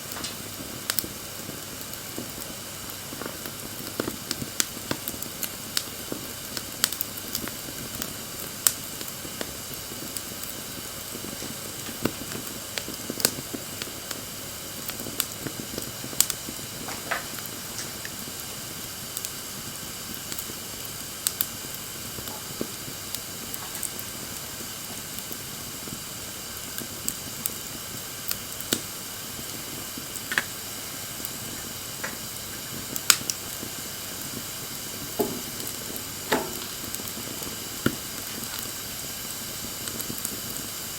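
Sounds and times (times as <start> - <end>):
burning wood crackling and popping: 0.0 - 40.9
campfire hissing: 0.0 - 40.9.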